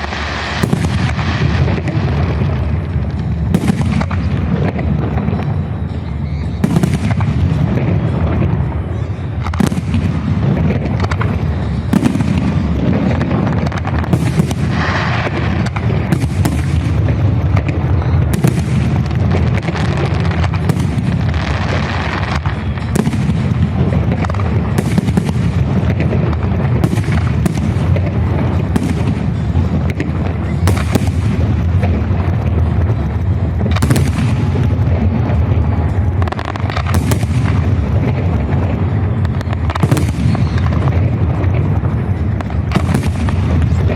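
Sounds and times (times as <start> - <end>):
low rumble of echoing explosions: 0.0 - 43.9.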